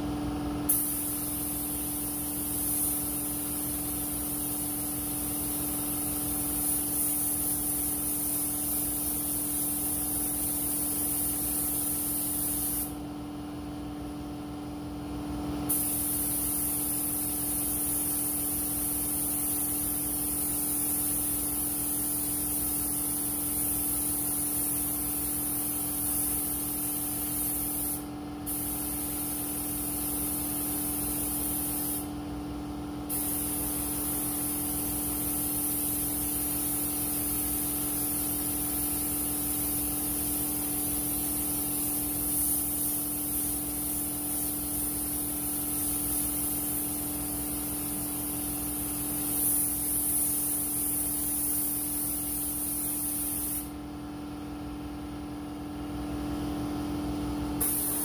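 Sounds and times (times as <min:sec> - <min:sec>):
paint spray gun hissing: 0:00.6 - 0:13.0, 0:15.7 - 0:32.2, 0:33.0 - 0:53.8, 0:57.6 - 0:58.0.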